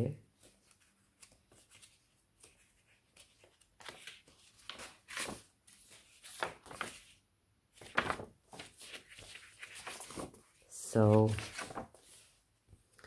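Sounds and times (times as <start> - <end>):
paper sheets rustling and crackling: 0.4 - 13.0.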